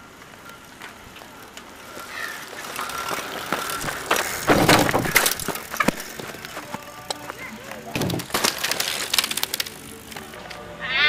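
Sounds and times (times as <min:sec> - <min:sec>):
bicycle rattling over rough ground: 0:00.0 - 0:10.8.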